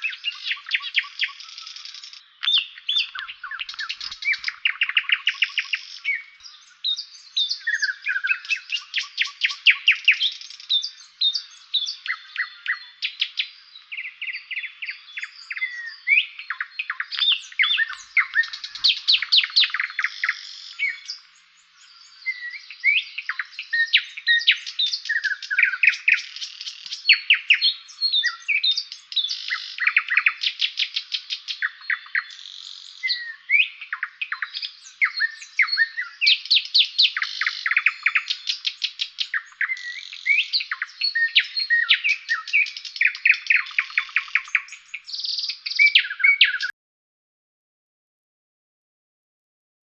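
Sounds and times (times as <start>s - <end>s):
songbirds singing: 0.0s - 46.7s.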